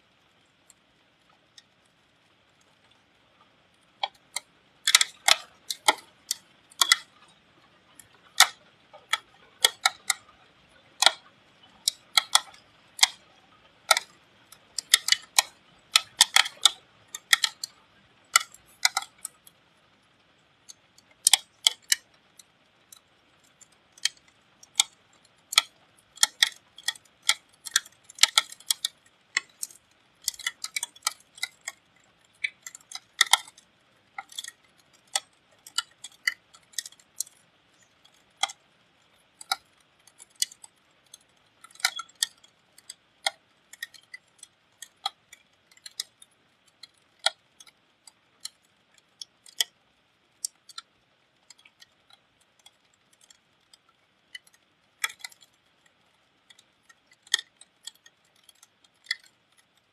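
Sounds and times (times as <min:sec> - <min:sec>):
faint rain hiss: 0:00.0 - 0:59.9
raindrops dripping on hard surface: 0:00.0 - 0:59.9.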